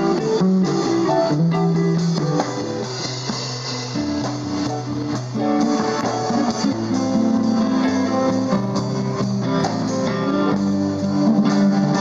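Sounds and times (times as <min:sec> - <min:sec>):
electric guitar: 0:00.0 - 0:12.0
live band playing: 0:00.0 - 0:12.0.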